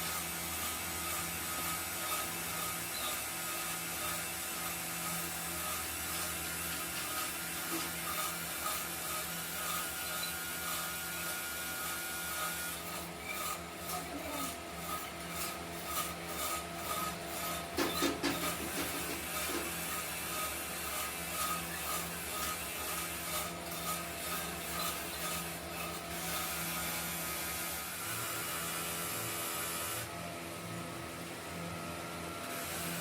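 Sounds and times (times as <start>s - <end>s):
rasping strokes on metal: 0.0s - 30.0s
workshop machine hum: 0.0s - 33.0s.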